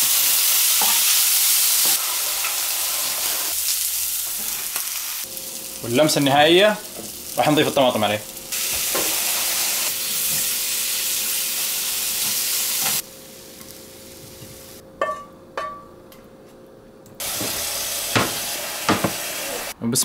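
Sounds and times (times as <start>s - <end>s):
food sizzling in a frying pan: 0.0s - 14.8s, 17.2s - 19.8s.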